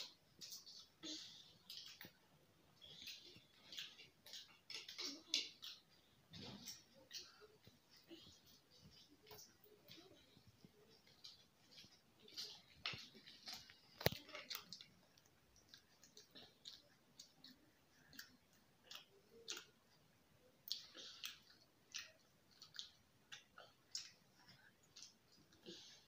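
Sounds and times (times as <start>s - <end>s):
children chewing food: 0.0s - 26.0s.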